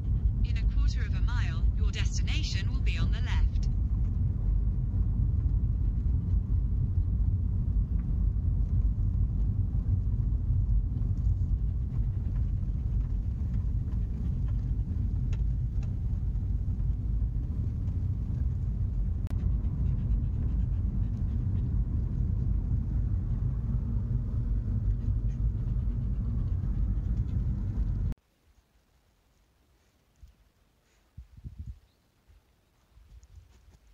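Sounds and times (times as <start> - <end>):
van engine and road noise: 0.0 - 28.2.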